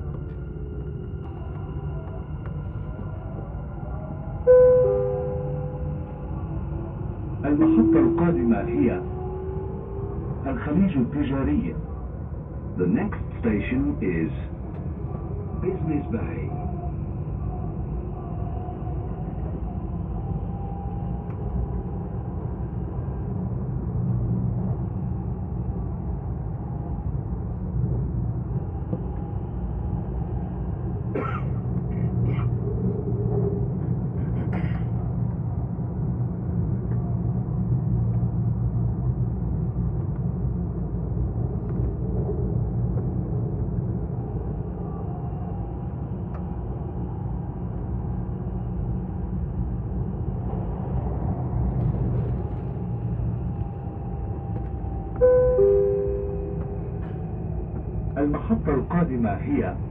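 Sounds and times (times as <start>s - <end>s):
train rumbling on track: 0.0s - 59.9s.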